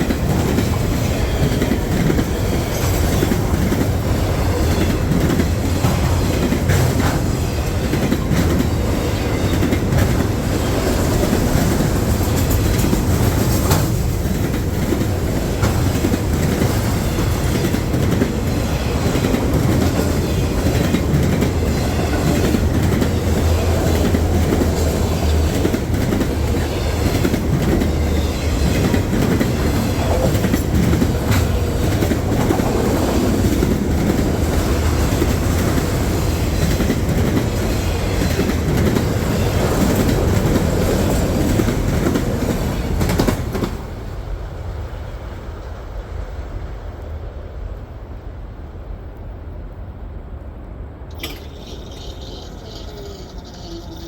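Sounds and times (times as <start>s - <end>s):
wheels clicking over rail joints: 0.0s - 43.8s, 51.1s - 54.0s
train cars rumbling past: 0.0s - 54.0s.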